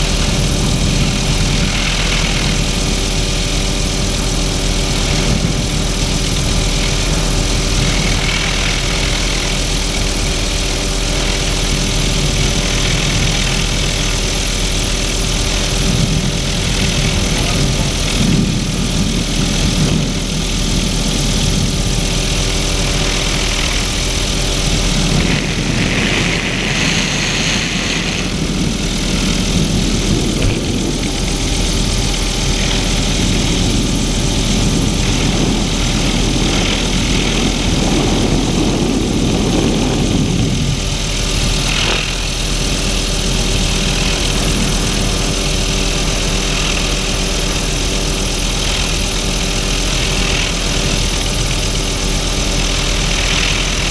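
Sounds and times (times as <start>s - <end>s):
helicopter rotor and engine noise: 0.0s - 53.9s
rushing air: 0.0s - 53.9s.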